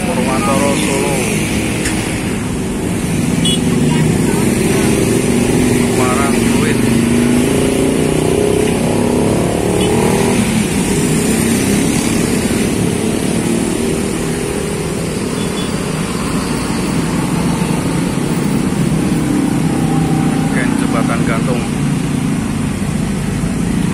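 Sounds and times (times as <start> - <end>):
bus engine passing: 0.0 - 23.9
motorcycle and car traffic: 0.0 - 23.9.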